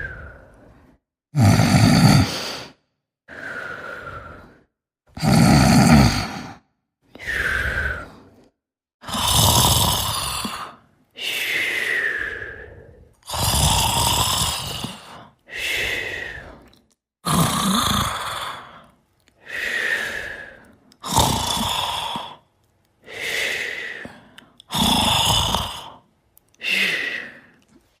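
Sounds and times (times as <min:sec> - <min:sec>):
person snoring: 0:00.0 - 0:27.7.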